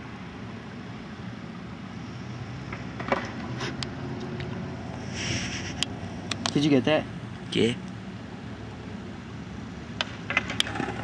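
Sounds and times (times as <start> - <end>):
distant traffic: 0.0 - 11.0.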